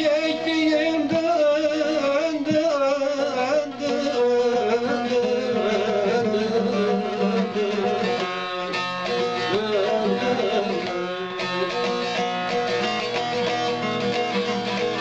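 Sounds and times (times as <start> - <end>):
plucked lute melody: 0.0 - 15.0.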